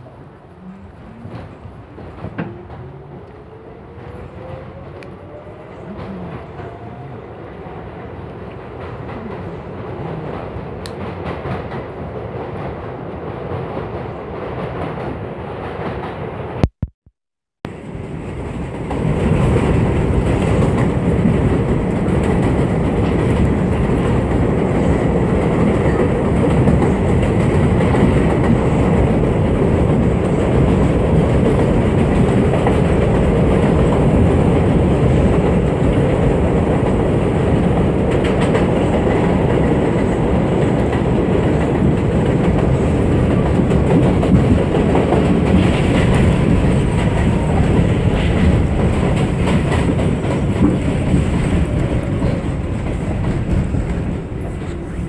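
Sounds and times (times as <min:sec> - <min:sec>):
subway train wheels rumbling: 0:00.0 - 0:16.6, 0:17.7 - 0:55.0.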